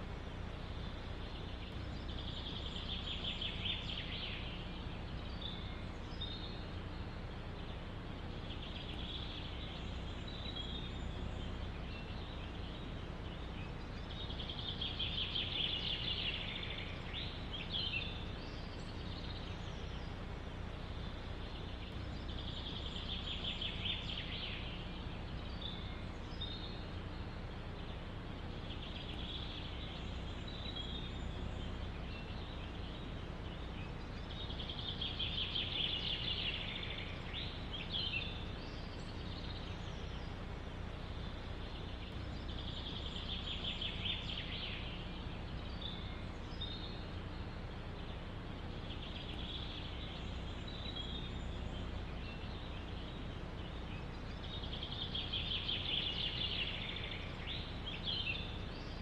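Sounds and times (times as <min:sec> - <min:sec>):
songbird trilling: 0:00.0 - 0:59.0
wind rumbling in forest: 0:00.0 - 0:59.0.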